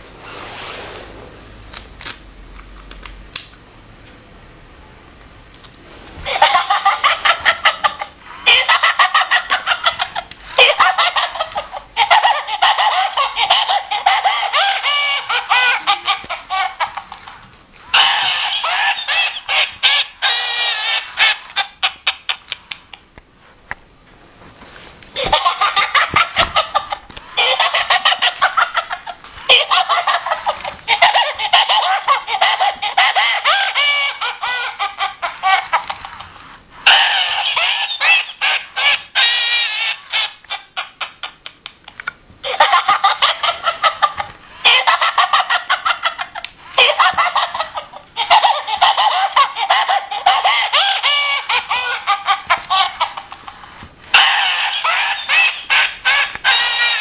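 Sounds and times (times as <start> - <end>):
toy speaker laughing sound effects: 6.2 - 23.1, 25.1 - 57.0.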